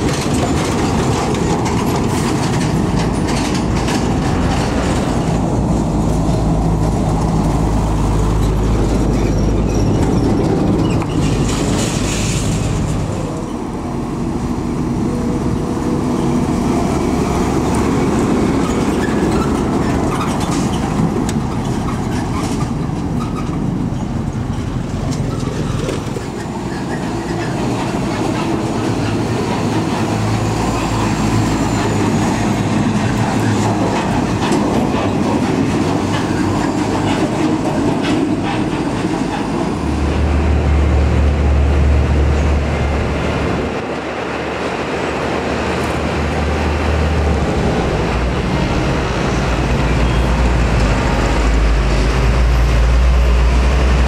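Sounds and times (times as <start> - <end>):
diesel trucks passing: 0.0 - 54.0
tyre noise on road: 0.0 - 54.0.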